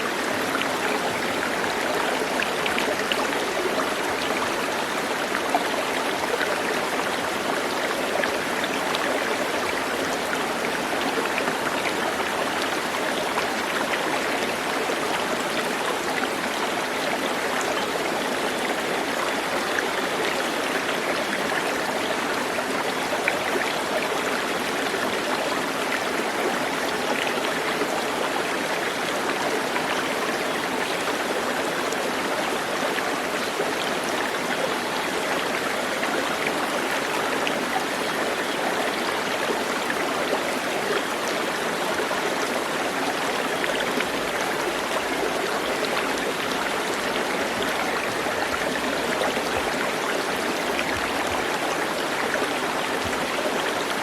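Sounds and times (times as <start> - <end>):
stream water babbling over stones: 0.0 - 54.0.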